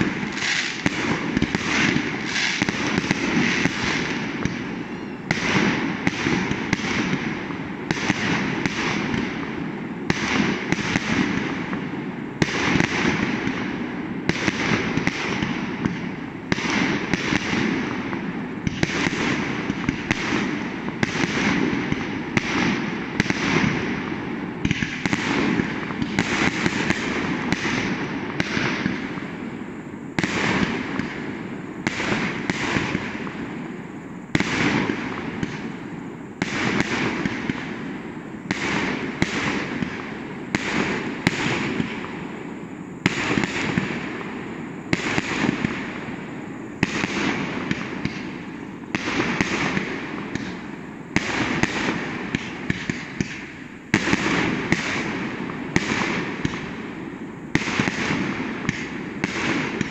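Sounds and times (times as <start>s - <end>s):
firework shells bursting with echo: 0.0s - 59.9s.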